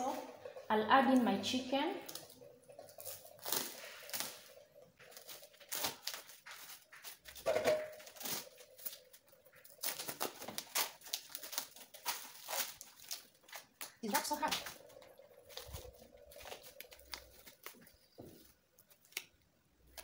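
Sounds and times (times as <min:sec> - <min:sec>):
plastic packaging crinkling and tearing: 0:02.9 - 0:20.0.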